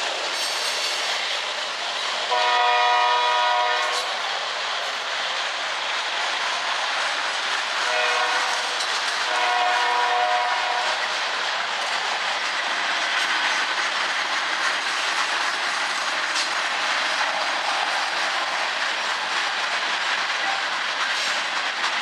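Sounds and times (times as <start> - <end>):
train wheels rumbling on rails: 0.0 - 22.0
wheels clicking over rail joints: 0.0 - 22.0.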